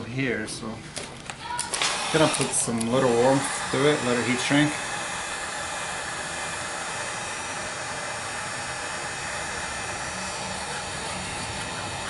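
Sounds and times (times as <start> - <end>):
heat gun blowing: 1.6 - 12.0.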